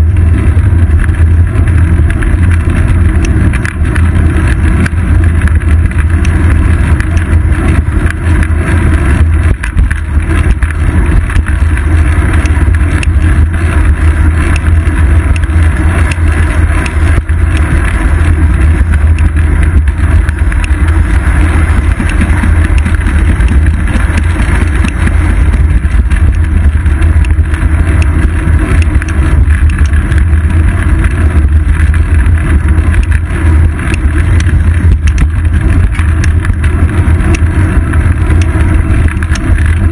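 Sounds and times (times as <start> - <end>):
bicycle tyre noise: 0.0 - 39.9
traffic noise: 0.0 - 39.9
wind rumble on microphone: 0.0 - 39.9.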